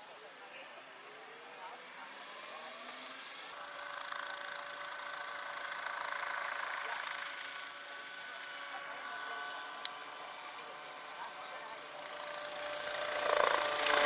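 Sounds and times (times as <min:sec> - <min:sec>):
model helicopter whine: 0:00.0 - 0:14.0.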